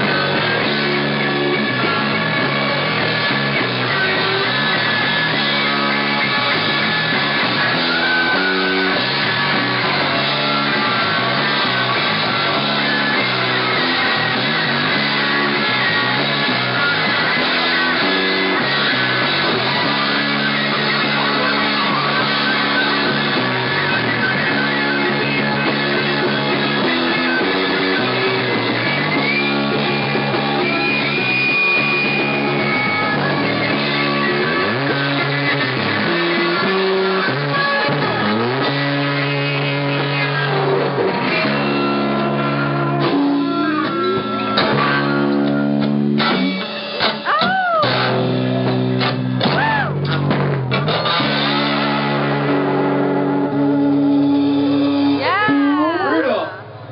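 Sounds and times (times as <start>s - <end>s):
high held guitar note: 0.0s - 56.9s
live rock band playing: 0.0s - 56.9s.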